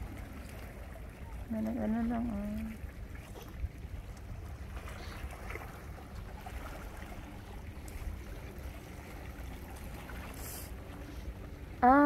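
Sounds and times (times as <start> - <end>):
sea water washing: 0.0 - 12.0.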